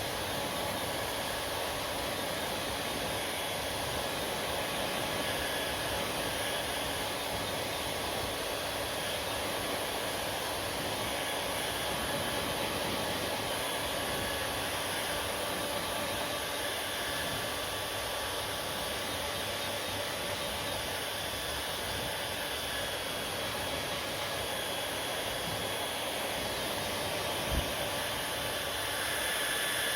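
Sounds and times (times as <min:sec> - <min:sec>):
hair dryer running: 0:00.0 - 0:29.9.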